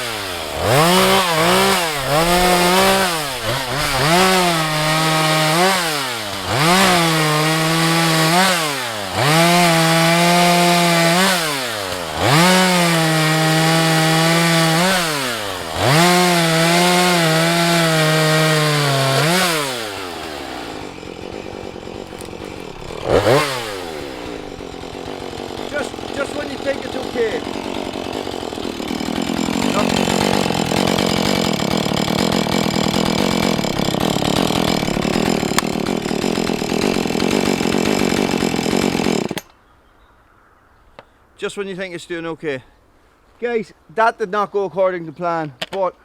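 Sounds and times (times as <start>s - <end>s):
chainsaw revving and cutting: 0.0s - 39.5s.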